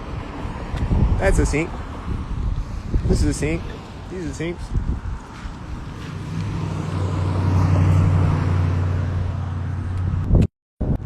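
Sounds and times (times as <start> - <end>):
vehicle passing by: 0.0 - 10.4.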